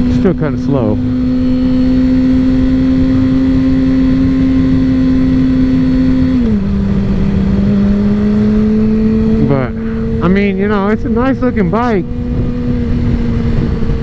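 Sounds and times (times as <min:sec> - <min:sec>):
motorcycle engine running: 0:00.0 - 0:14.0
wind rumble: 0:00.0 - 0:14.0.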